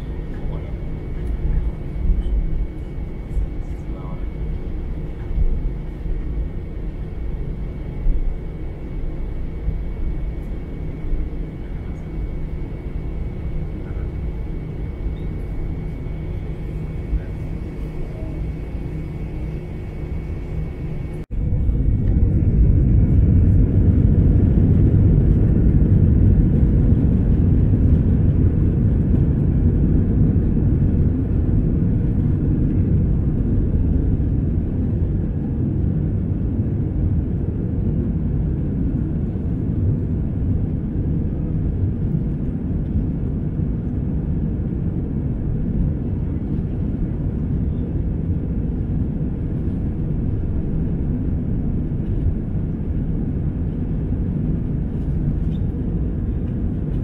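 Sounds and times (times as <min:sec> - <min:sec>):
jet engines low rumble: 0:00.0 - 0:57.0.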